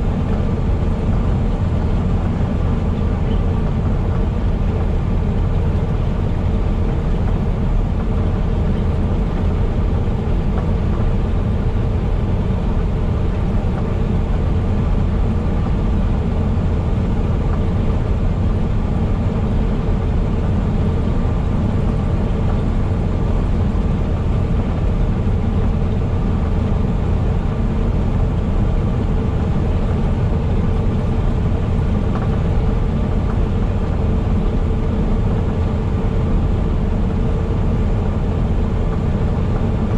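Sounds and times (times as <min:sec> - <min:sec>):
heavy truck engine drone: 0:00.0 - 0:39.9
road rumble: 0:00.0 - 0:39.9.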